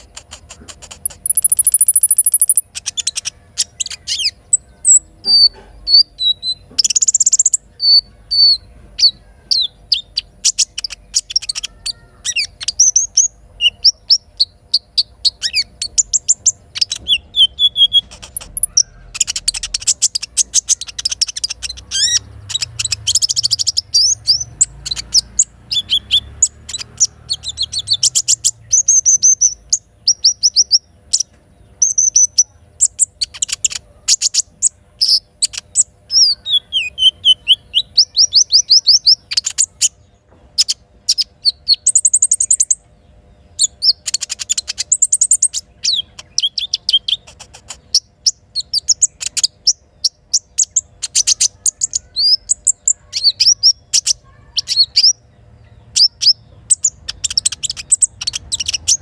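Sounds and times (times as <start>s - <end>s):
bird singing with trills: 0.0s - 59.0s.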